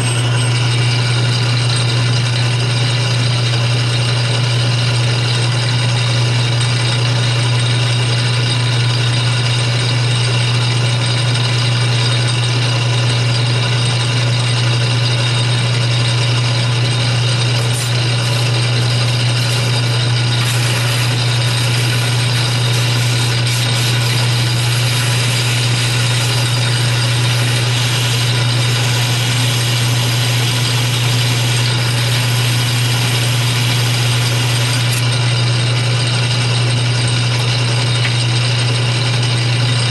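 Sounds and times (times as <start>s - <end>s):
lathe motor hum: 0.0s - 39.9s.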